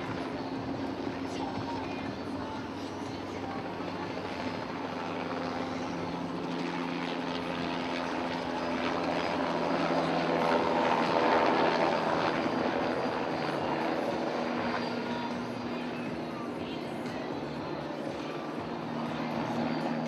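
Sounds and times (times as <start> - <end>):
helicopter flying past: 0.0 - 20.0.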